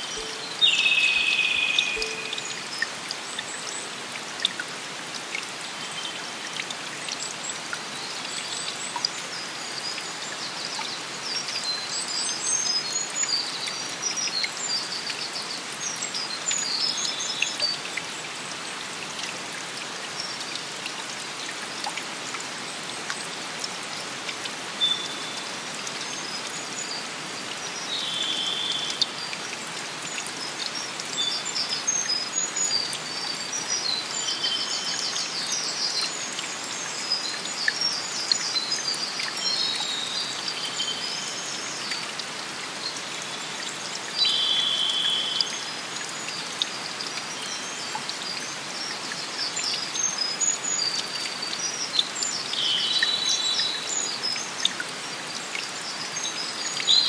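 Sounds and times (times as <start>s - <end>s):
rain and running water: 0.0s - 57.0s
songbirds chirping: 0.0s - 57.0s.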